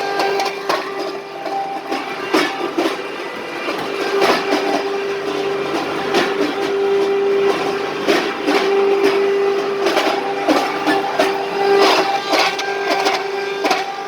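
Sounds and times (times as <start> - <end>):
grinding machine motor hum: 0.0 - 14.0
machine clattering and knocking: 0.0 - 14.0.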